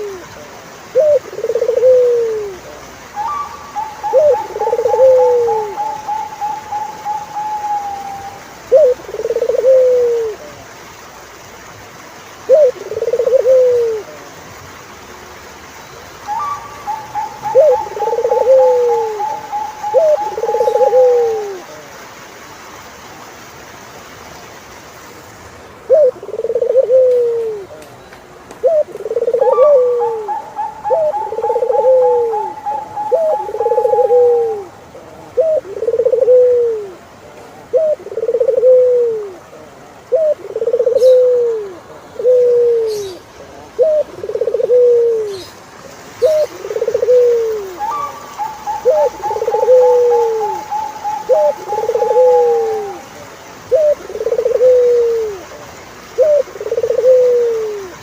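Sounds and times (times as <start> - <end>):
turtle doves cooing: 0.0 - 10.7, 12.3 - 14.4, 16.1 - 22.0, 25.8 - 27.8, 28.6 - 58.0.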